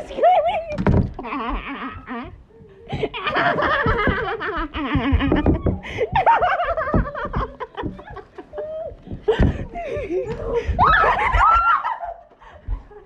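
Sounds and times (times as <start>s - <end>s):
girls laughing and shrieking: 0.0s - 13.0s.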